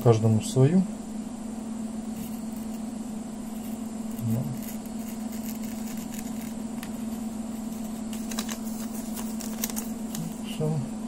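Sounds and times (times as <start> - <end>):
low equipment hum: 0.0 - 11.0.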